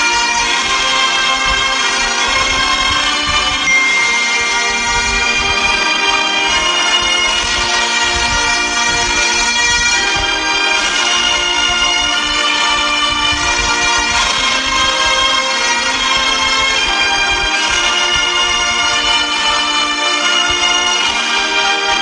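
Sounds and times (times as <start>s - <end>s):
bagpipe music: 0.0s - 22.0s.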